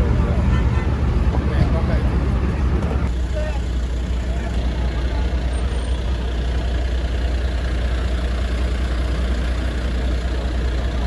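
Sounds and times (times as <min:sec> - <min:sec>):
traffic noise: 0:00.0 - 0:11.0
vehicle engine rumbling: 0:00.0 - 0:11.0.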